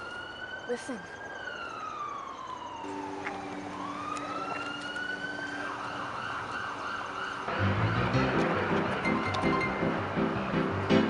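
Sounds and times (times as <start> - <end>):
police siren wailing: 0.0 - 10.4.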